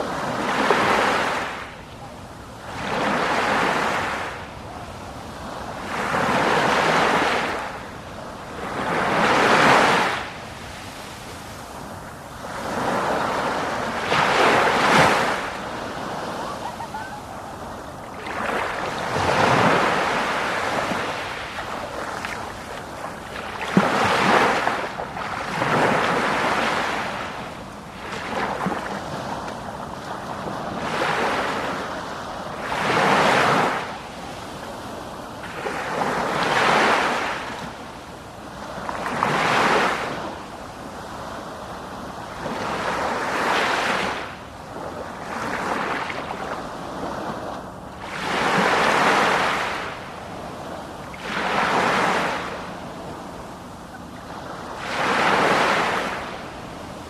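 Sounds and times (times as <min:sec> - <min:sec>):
sea waves breaking: 0:02.6 - 0:37.9, 0:42.4 - 0:57.0.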